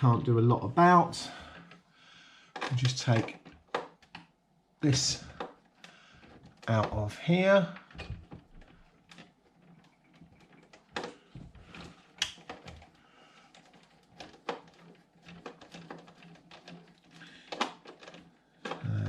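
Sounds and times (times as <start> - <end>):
plastic parts clicking and tapping: 2.5 - 19.0.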